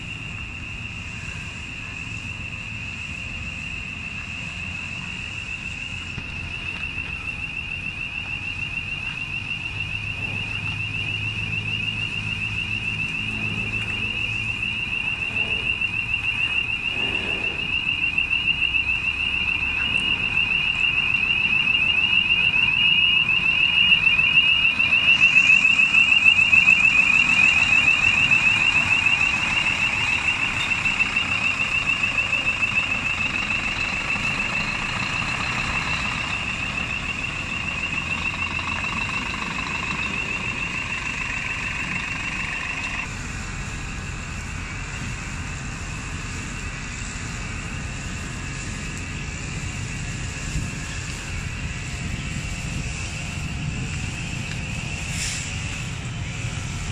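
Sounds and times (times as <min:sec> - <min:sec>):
diesel engine running: 0:00.0 - 0:56.9
truck warning alarm warbling: 0:00.0 - 0:56.9.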